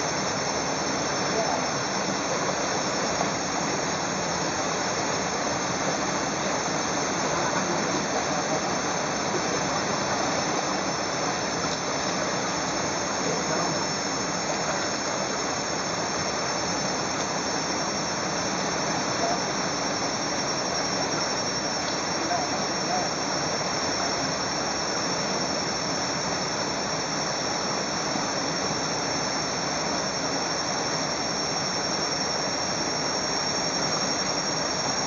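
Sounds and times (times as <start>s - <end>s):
high-pitched whine: 0.0s - 35.0s.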